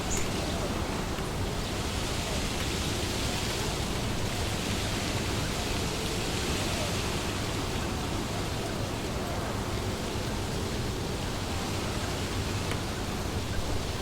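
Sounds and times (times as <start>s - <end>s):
wind rustling leaves: 0.0s - 14.0s.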